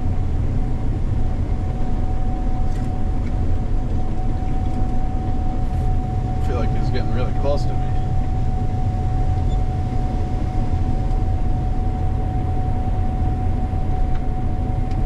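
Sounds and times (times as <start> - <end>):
combine harvester rumble: 0.0 - 15.0
constant high whine: 0.0 - 15.0.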